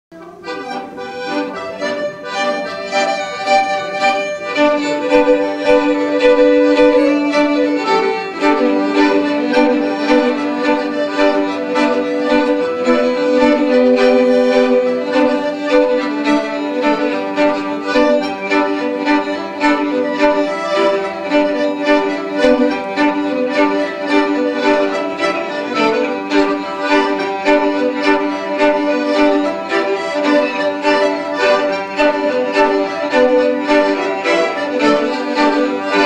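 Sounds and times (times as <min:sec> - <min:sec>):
accordion: 0:00.1 - 0:36.0
fiddle: 0:00.2 - 0:36.0.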